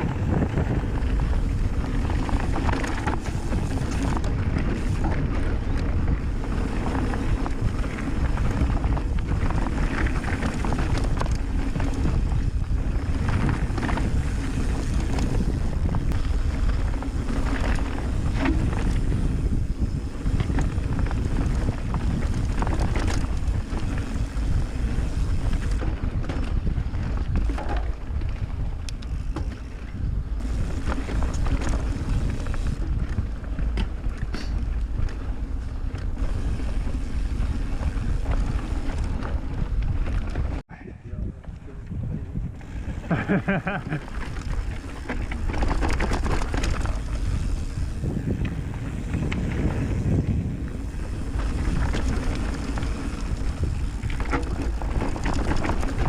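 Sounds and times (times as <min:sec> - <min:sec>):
bike knocks and rattles: 0:00.0 - 0:40.6, 0:43.2 - 0:56.0
bike tyres rumbling on dirt: 0:00.0 - 0:56.0
wind buffeting microphone: 0:00.0 - 0:56.0.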